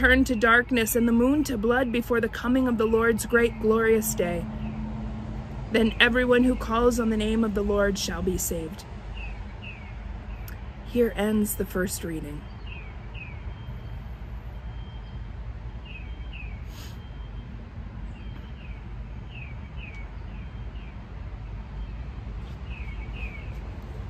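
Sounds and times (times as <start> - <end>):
songbird chirping: 0.0 - 24.0.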